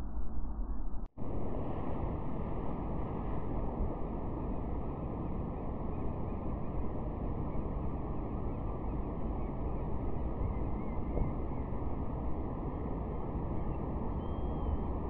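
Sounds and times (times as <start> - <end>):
wind blowing across microphone: 1.2 - 15.0.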